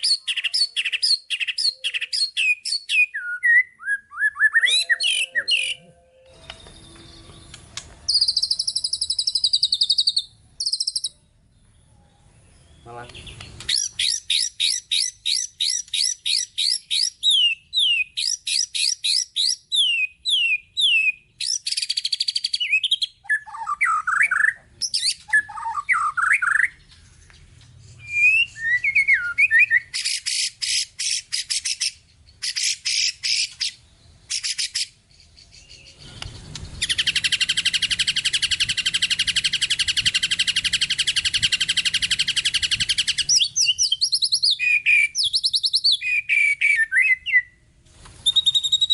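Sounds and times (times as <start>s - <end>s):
songbird singing varied song: 0.0s - 47.6s, 48.2s - 48.9s.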